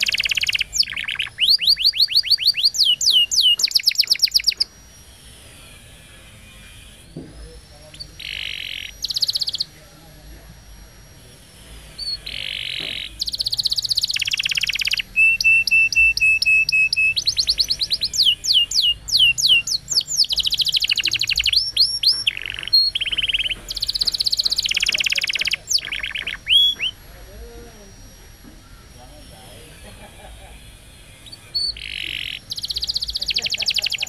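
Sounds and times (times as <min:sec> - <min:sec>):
canary singing: 0:00.0 - 0:10.0, 0:10.7 - 0:34.0.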